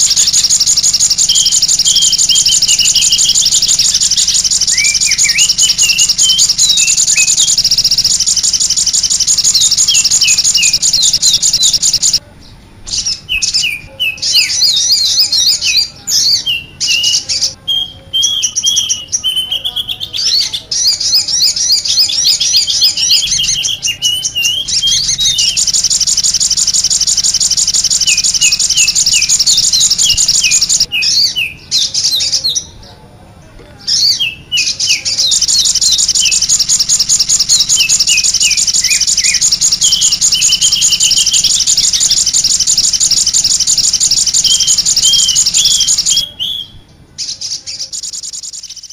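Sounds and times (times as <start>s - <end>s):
small birds chirping and twittering: 0.0s - 48.9s.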